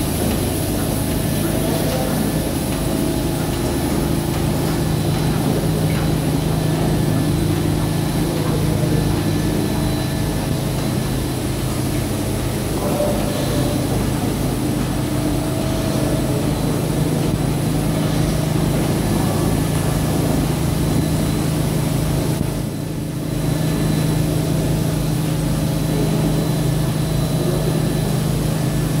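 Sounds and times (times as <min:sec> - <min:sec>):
carpet washing machine motor hum: 0:00.0 - 0:29.0.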